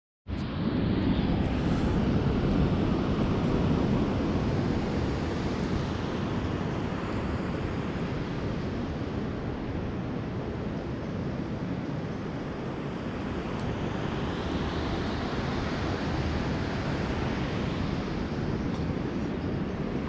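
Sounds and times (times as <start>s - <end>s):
steady rushing noise: 0.3s - 20.0s.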